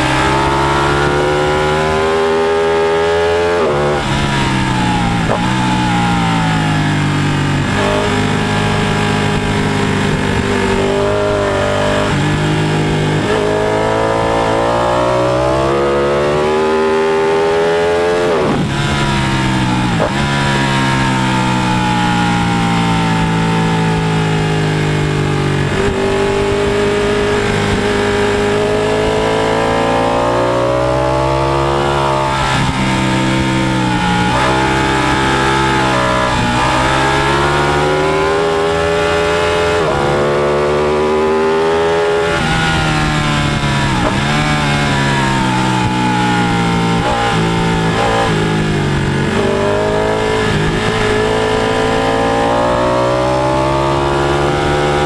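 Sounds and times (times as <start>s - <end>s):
motorcycle engine revving high: 0.0s - 55.0s.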